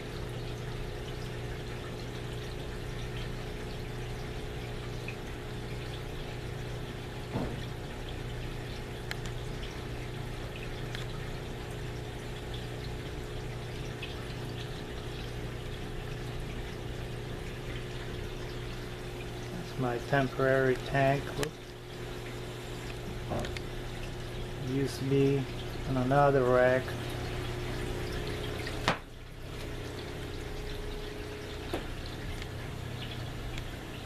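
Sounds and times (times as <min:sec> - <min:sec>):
constant low hum: 0:00.0 - 0:34.0
water trickling and splashing: 0:00.0 - 0:34.0.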